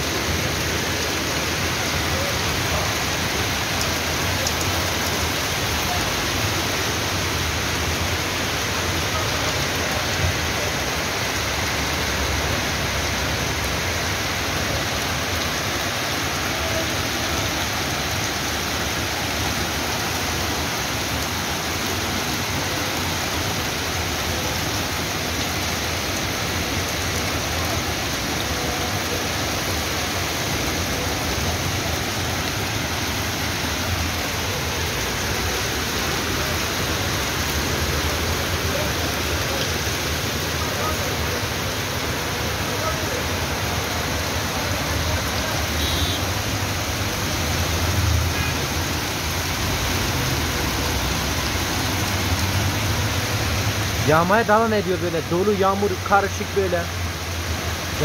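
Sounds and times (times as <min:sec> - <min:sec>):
heavy rain and hail: 0:00.0 - 0:58.0.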